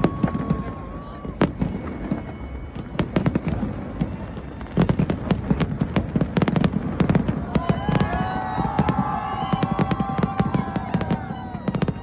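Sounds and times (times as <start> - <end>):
fireworks bangs and crackles: 0.0 - 12.0
whistling fireworks: 0.0 - 12.0.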